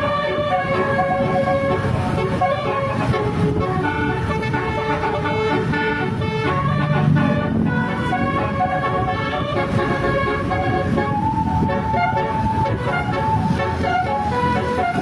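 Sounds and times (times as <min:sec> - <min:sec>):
multi-tone horn playing a melody: 0:00.0 - 0:15.0.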